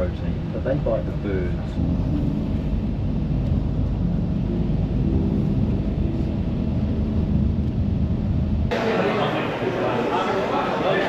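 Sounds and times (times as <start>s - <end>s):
large vehicle engine rumbling: 0.0s - 10.9s.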